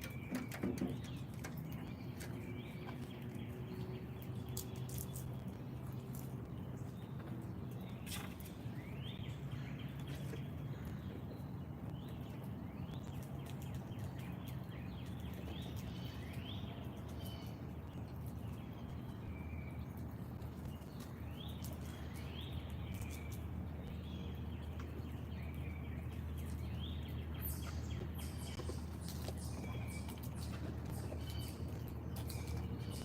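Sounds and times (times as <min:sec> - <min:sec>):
birds chirping: 0:00.0 - 0:33.0
low background rumble: 0:00.0 - 0:33.0.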